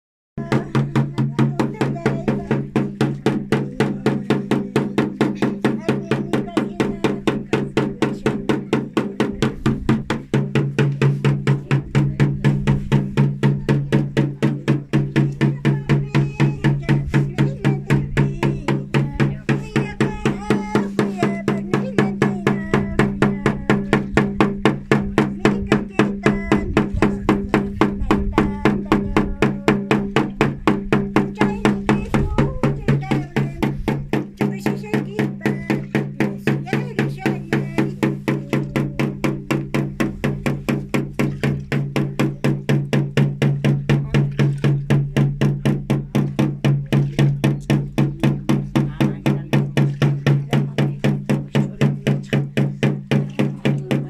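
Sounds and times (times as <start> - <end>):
fast percussion beat: 0.4 - 54.0.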